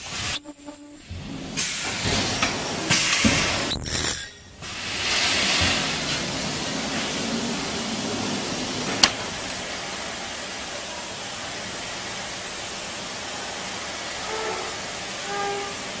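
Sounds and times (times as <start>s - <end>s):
hiss of air and machinery: 0.0s - 16.0s.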